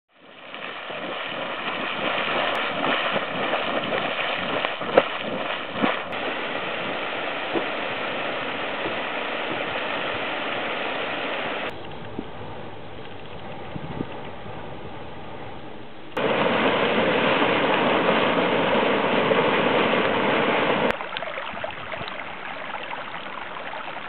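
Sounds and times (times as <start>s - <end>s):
geyser rushing water and steam: 0.1s - 11.7s, 16.2s - 23.9s.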